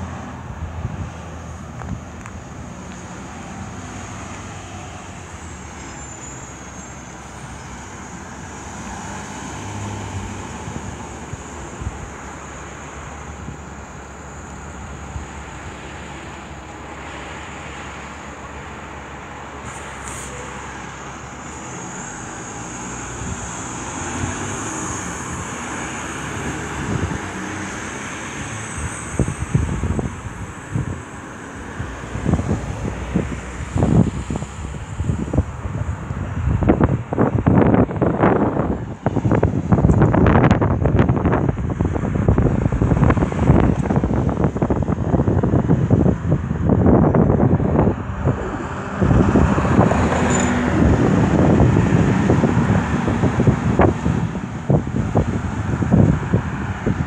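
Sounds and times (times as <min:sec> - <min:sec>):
distant jet airliner rumble: 0:00.0 - 0:57.0
road traffic hum: 0:00.0 - 0:57.0.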